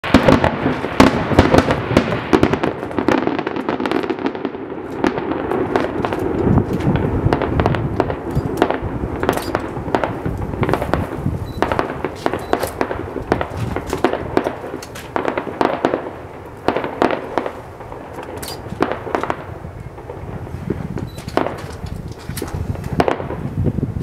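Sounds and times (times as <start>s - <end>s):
fireworks bangs: 0.0s - 24.0s
fireworks bursting and crackling: 0.0s - 24.0s.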